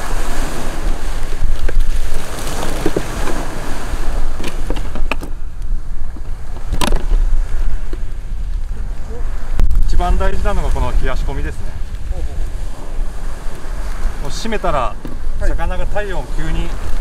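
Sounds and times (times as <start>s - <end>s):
surf: 0.0s - 17.0s
wind buffeting microphone: 0.0s - 17.0s.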